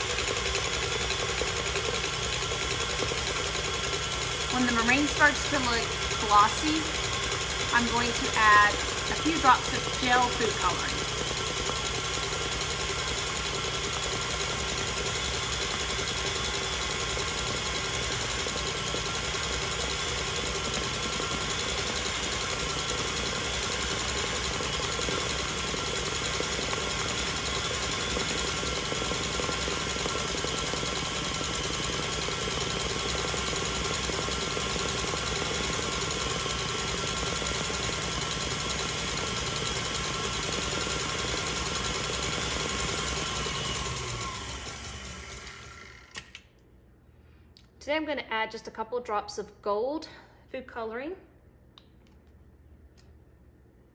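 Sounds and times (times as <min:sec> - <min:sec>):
stand mixer whipping: 0:00.0 - 0:46.4.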